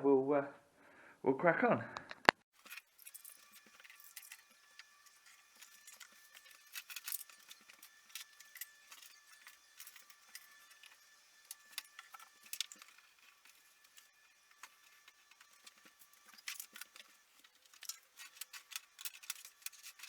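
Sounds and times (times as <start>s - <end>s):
clicking of model track pieces: 2.6s - 20.0s.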